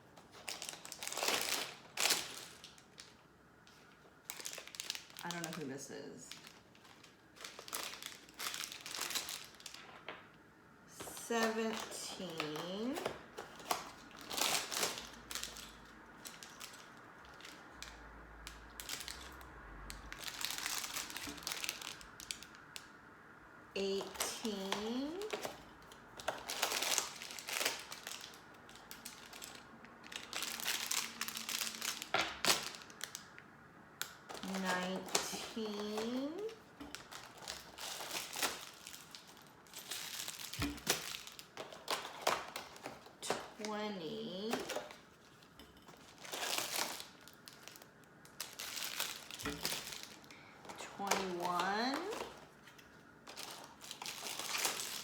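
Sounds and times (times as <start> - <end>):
packaging crinkling: 0.1 - 10.2, 11.0 - 22.9, 23.9 - 33.4, 34.0 - 55.0.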